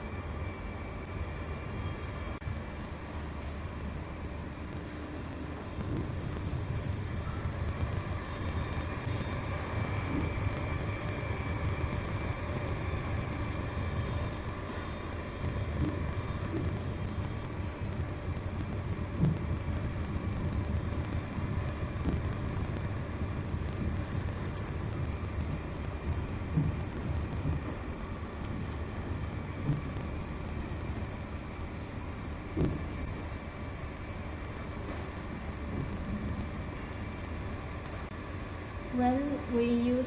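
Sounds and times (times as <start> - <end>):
faint high whine: 0.0 - 40.0.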